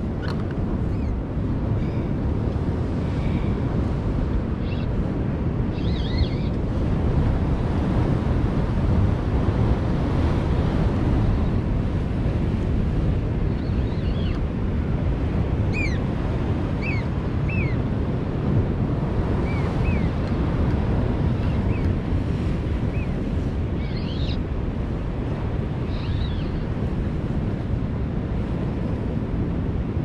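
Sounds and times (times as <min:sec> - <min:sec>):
rumbling wind: 0:00.0 - 0:30.0.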